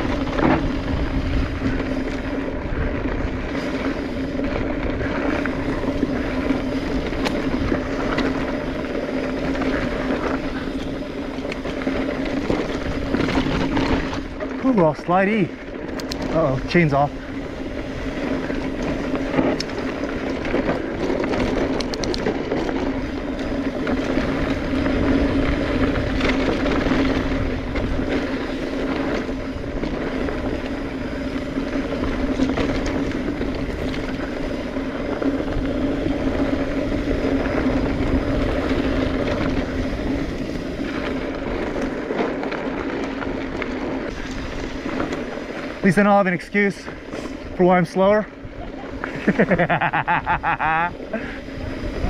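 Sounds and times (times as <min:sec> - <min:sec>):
bike tire noise on dirt: 0:00.0 - 0:52.0
small rattles and clicks: 0:00.0 - 0:52.0
wind rushing over microphone: 0:00.0 - 0:52.0.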